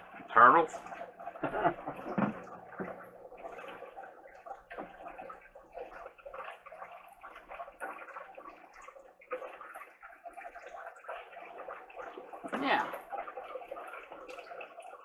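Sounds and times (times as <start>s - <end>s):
water sloshing and dripping: 0.0s - 15.0s.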